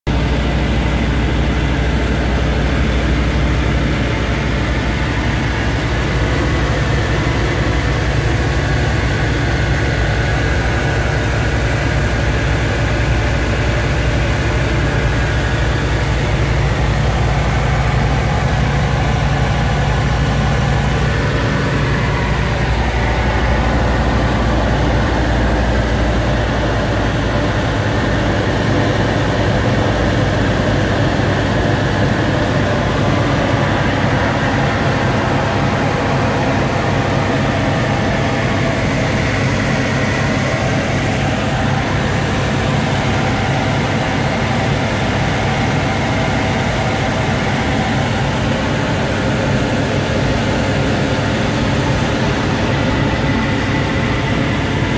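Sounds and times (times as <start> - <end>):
light aircraft engine and propeller: 0.1 - 54.9.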